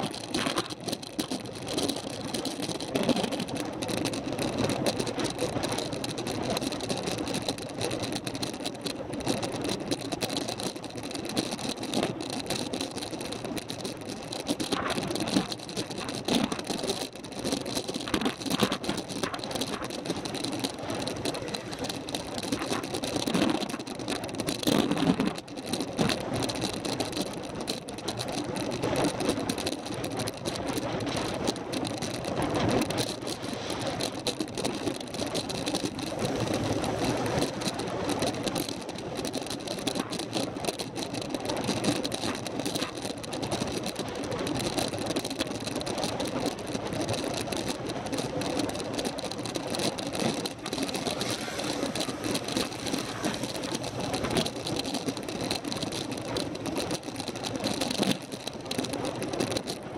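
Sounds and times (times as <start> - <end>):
bicycle rattling clicks: 0.0 - 59.9
road noise: 0.0 - 59.9
wind noise: 0.0 - 59.9.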